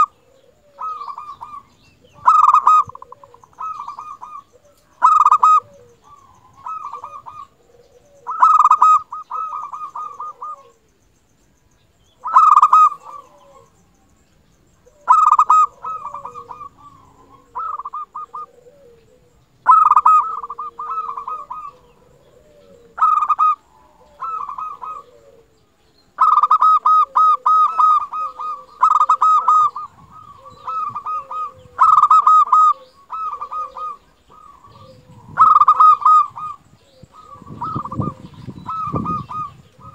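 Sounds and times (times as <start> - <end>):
dove rapid staccato cooing: 0.0 - 10.8, 12.2 - 13.8, 14.8 - 25.5, 26.1 - 39.9.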